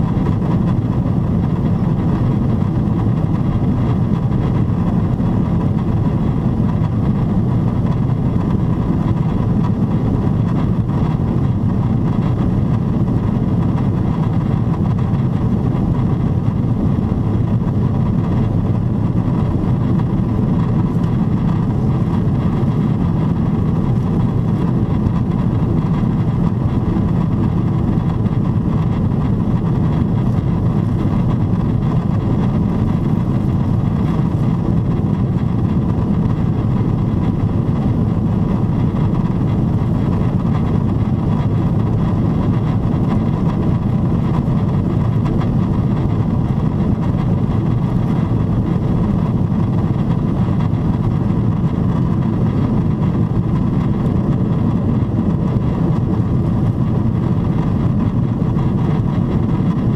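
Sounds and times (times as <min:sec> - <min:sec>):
air rushing along fuselage: 0:00.0 - 0:59.9
jet engines droning: 0:00.0 - 0:59.9.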